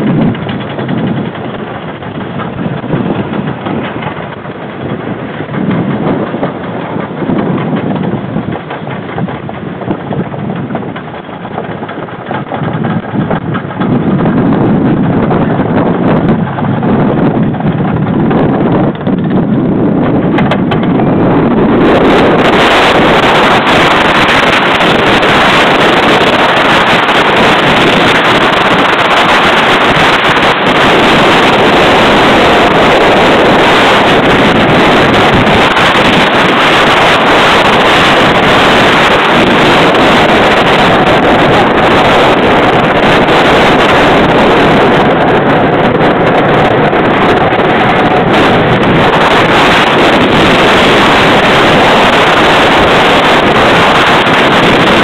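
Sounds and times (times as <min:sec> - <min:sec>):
roller coaster rumbling on track: 0:00.0 - 0:55.0
wind buffeting microphone: 0:00.0 - 0:55.0.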